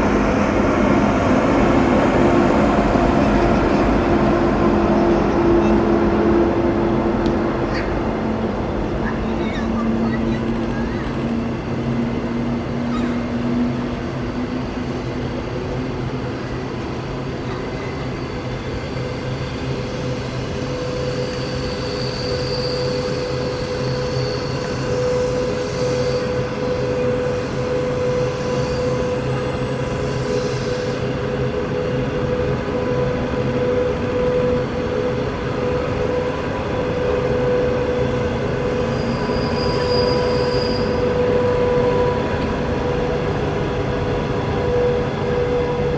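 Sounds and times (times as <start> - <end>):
train wheels rumbling on rail: 0.0 - 45.9
high squeal from wheels: 7.6 - 45.9.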